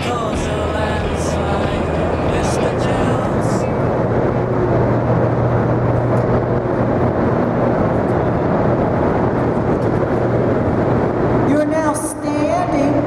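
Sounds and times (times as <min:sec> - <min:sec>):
generator machine drone: 0:00.0 - 0:13.0.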